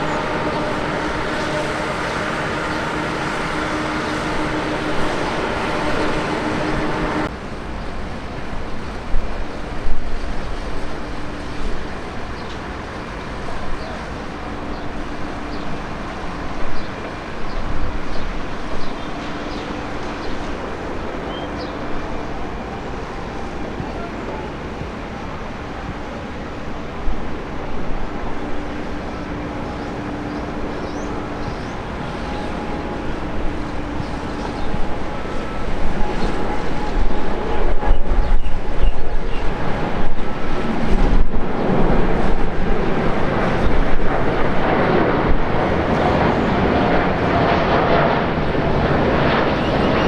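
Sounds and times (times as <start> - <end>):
aircraft engines running: 0.0 - 50.0.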